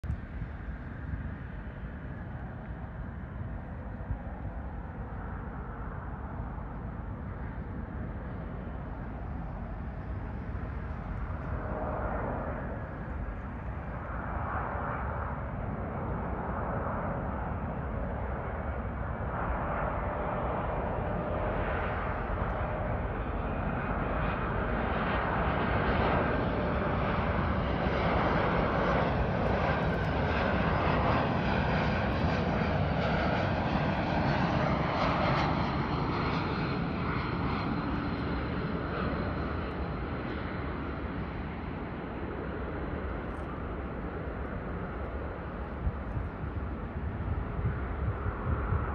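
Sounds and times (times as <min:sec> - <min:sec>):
jet airliner roar: 0:00.1 - 0:48.9.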